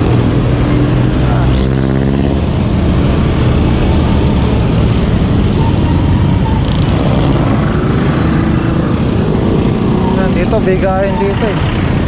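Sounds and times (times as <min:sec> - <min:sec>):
motorcycle: 0:00.0 - 0:12.0
road traffic: 0:00.0 - 0:12.0.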